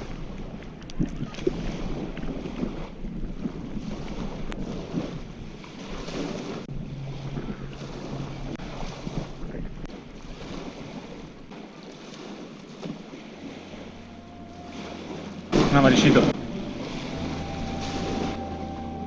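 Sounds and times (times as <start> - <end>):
small waves washing on shore: 0.0 - 19.0
wind buffeting microphone: 0.0 - 19.0.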